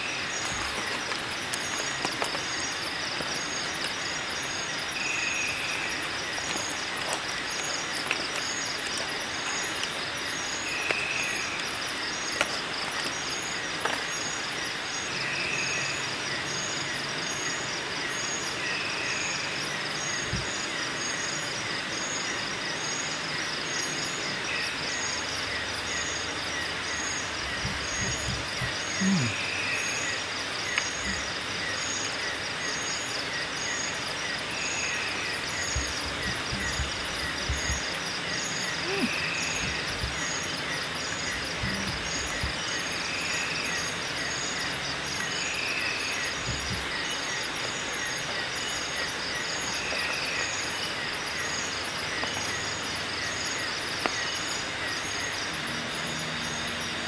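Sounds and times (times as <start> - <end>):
insects trilling: 0.0 - 57.0
short insect call: 0.0 - 57.0.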